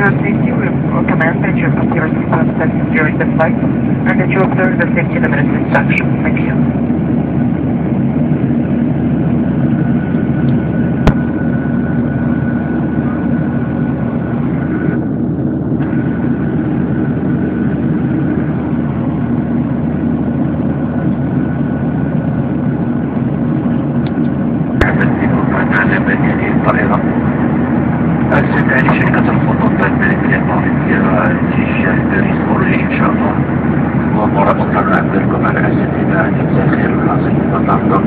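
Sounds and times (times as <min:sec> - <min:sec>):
airplane cabin engine drone: 0:00.0 - 0:38.0
faint steady whine: 0:00.0 - 0:38.0.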